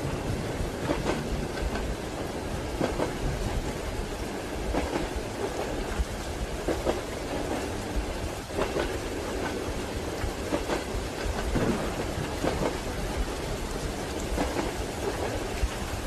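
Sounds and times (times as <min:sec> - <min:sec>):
steady rain: 0:00.0 - 0:16.0
train rumbling: 0:00.0 - 0:16.0
wheels clacking over rail joints: 0:00.0 - 0:16.0.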